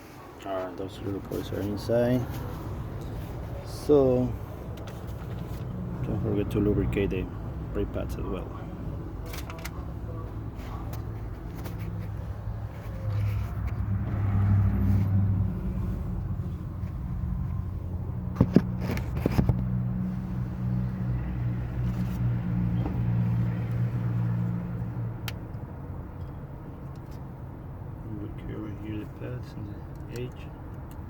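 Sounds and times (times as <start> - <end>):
vehicle engine humming: 0.4 - 31.0.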